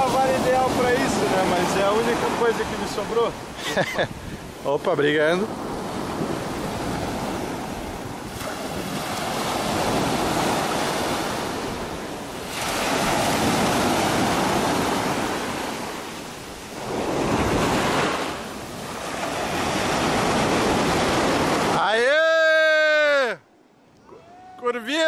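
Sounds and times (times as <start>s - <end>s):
ocean waves on beach: 0.0s - 25.0s.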